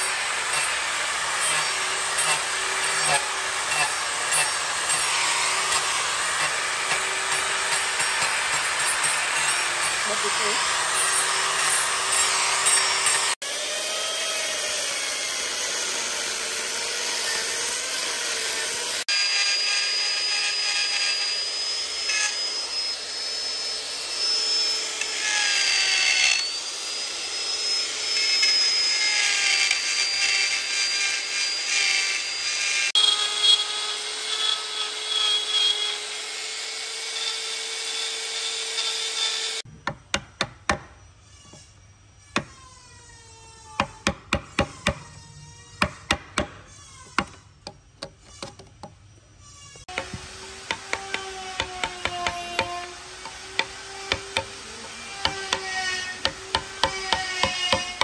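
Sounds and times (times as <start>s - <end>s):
die grinder whining on wood: 0.0s - 39.7s, 49.7s - 58.0s.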